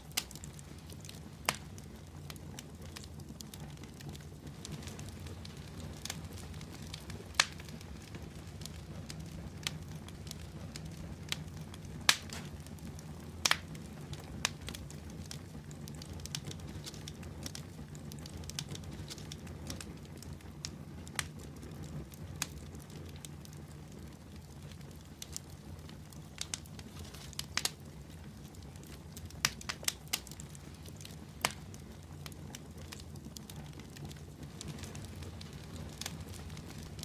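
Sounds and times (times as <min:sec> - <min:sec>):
fire crackles and pops: 0:00.0 - 0:37.0
low rumble of flames: 0:00.0 - 0:37.0.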